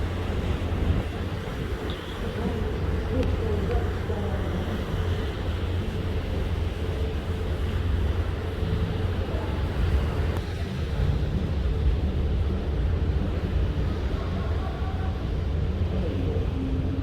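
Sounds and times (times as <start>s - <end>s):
boat engine hum: 0.0s - 17.0s
rush of wind and water: 0.0s - 17.0s.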